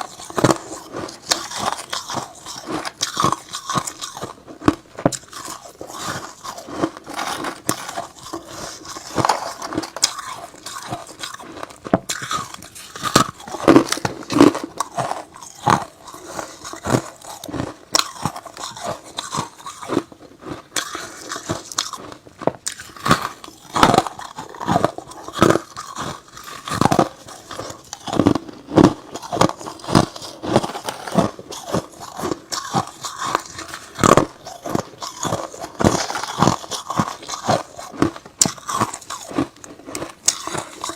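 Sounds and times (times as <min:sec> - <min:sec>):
chewing hard ice crunches: 0:00.0 - 0:40.9.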